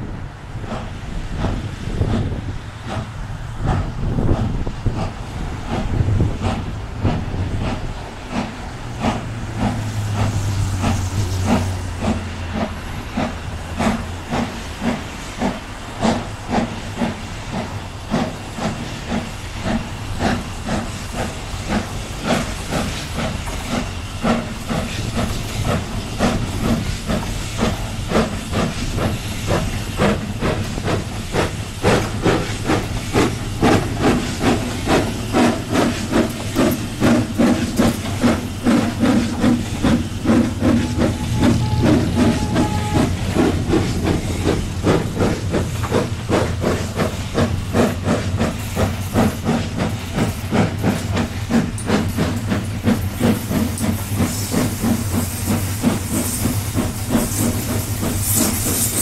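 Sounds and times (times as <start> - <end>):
steam hissing: 0.0 - 59.0
steam locomotive chuffing: 0.0 - 59.0.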